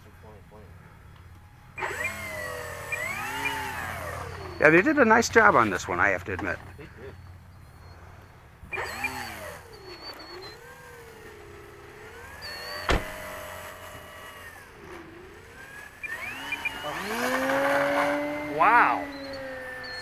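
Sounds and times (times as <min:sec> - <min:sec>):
model plane motor whine: 0:01.0 - 0:20.0.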